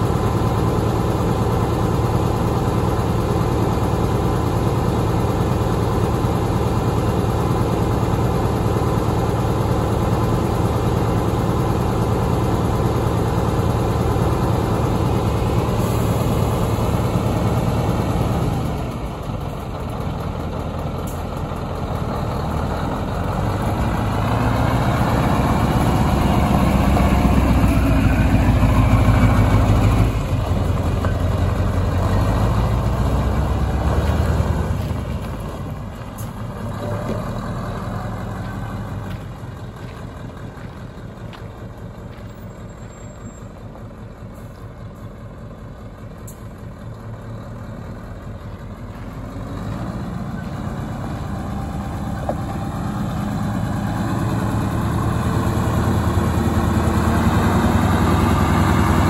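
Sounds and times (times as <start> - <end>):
diesel truck engine idling and pulling away: 0.0 - 59.0.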